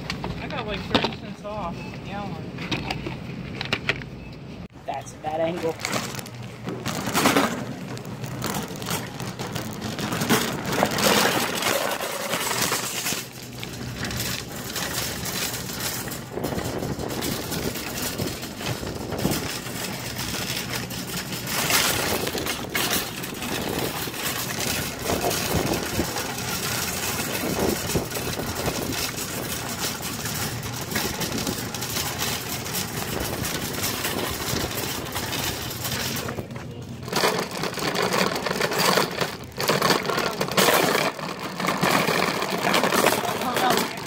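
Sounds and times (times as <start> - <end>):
shopping cart rattling on asphalt: 0.0 - 4.0, 4.9 - 44.0.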